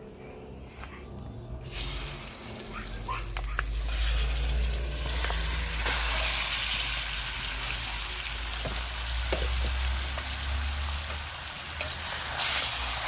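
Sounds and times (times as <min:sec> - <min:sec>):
chicken frying in hot oil: 0:01.6 - 0:13.0.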